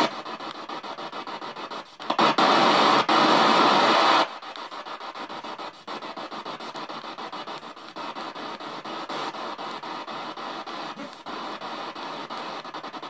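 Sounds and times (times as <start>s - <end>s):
pulsing radio static: 0.0s - 13.0s.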